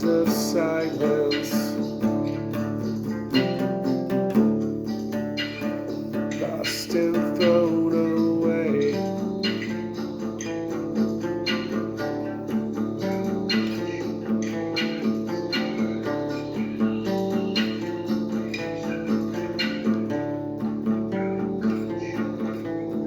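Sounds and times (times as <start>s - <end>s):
acoustic guitar strumming: 0.0s - 23.0s
sliding guitar melody: 0.0s - 23.0s.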